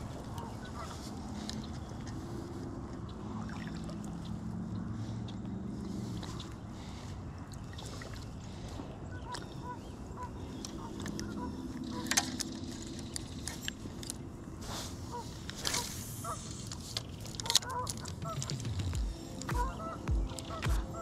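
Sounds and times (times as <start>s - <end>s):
distant engine humming: 0.0s - 21.0s.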